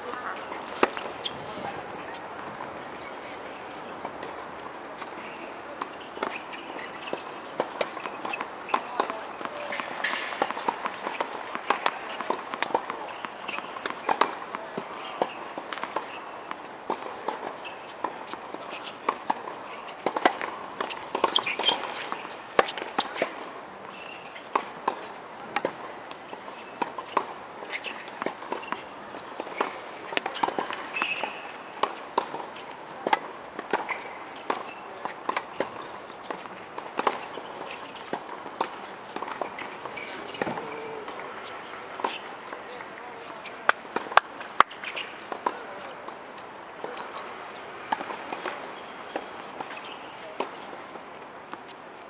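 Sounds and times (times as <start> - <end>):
tennis balls bouncing: 0.0 - 45.7.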